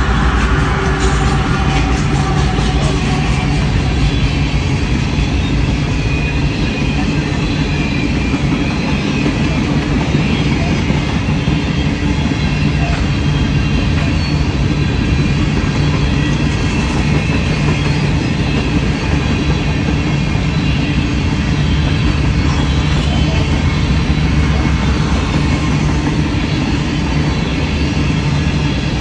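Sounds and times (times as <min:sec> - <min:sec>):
freight train rumbling on rails: 0:00.0 - 0:29.0.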